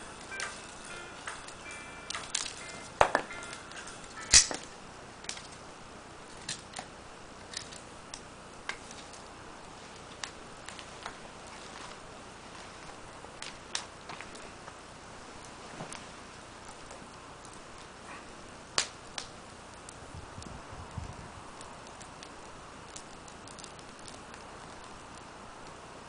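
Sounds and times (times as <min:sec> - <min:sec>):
loud cracks of fire: 0:00.0 - 0:26.0
small fire crackling: 0:00.0 - 0:26.0.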